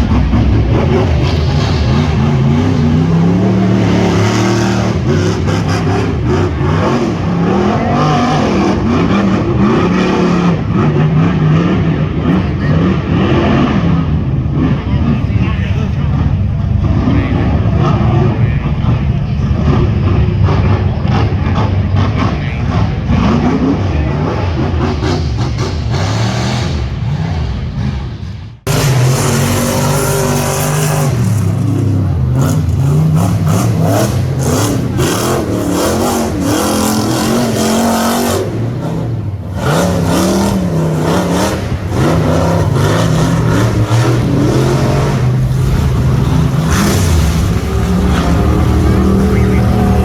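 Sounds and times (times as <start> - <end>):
buggy engines revving: 0.0 - 50.0.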